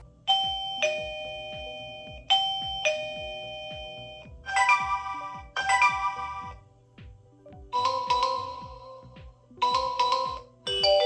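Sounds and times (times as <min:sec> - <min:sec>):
doorbell ding-dong: 0:00.3 - 0:06.6, 0:07.8 - 0:09.0, 0:09.6 - 0:11.0
multi-note doorbell chime: 0:00.3 - 0:06.6, 0:07.7 - 0:11.0.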